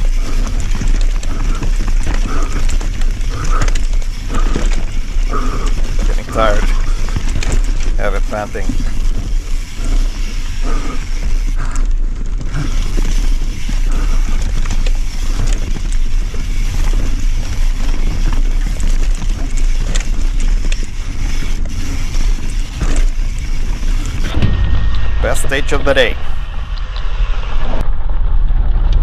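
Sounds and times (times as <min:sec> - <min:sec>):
bike knocks and rattles: 0:00.0 - 0:25.1
bike tyre noise: 0:00.0 - 0:29.0
wind rumble on microphone: 0:00.0 - 0:29.0.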